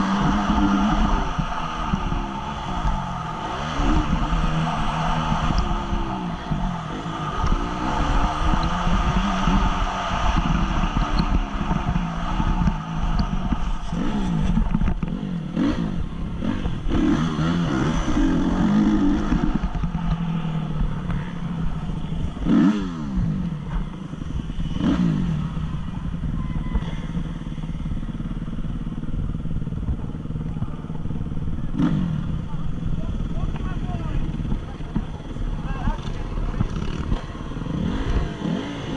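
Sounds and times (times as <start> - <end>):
motocross bike engine running hard: 0.0 - 38.9
wind rumble on microphone: 0.0 - 38.9.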